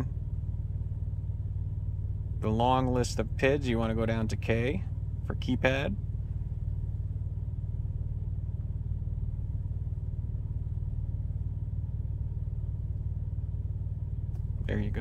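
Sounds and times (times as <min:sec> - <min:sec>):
pickup truck idling: 0:00.0 - 0:15.0.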